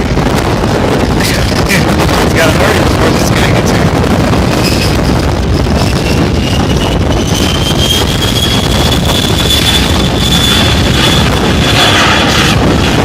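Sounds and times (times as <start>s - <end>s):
faint aircraft engine whine: 0.0s - 13.0s
wind buffeting microphone: 0.0s - 13.0s.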